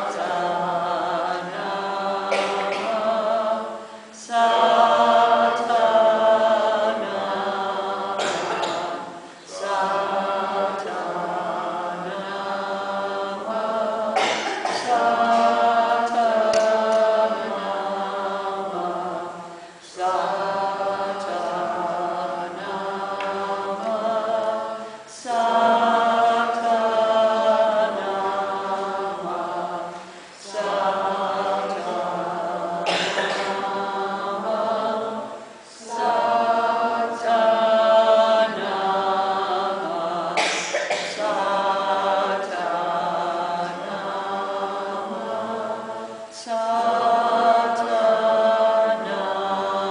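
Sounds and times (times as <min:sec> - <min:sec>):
group chanting a cappella: 0:00.0 - 0:49.9.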